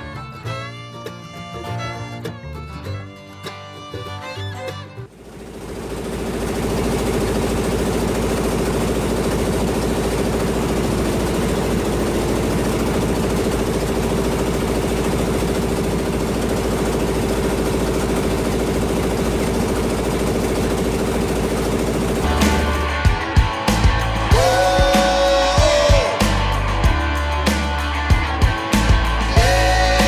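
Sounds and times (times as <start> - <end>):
diesel boat engine pulsing: 0.0 - 30.0.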